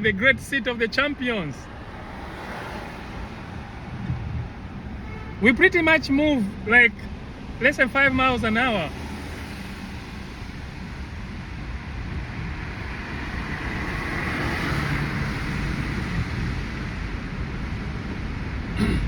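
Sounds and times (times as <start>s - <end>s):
car engine rumble: 0.0s - 19.0s
tyres hissing on wet road: 1.4s - 19.0s.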